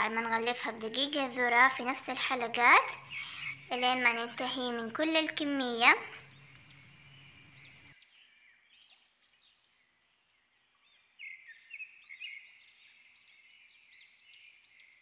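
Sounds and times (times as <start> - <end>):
bird chirps and trills: 0.0 - 9.9, 10.6 - 15.0.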